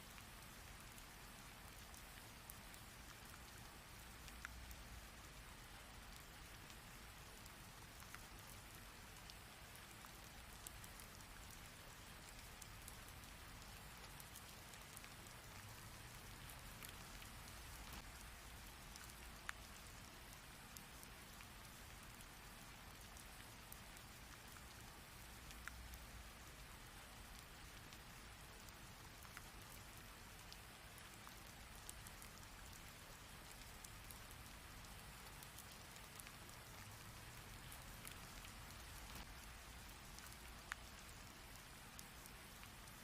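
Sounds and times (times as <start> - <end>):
raindrop ticks: 0.0 - 43.0
steady rain hiss: 0.0 - 43.0.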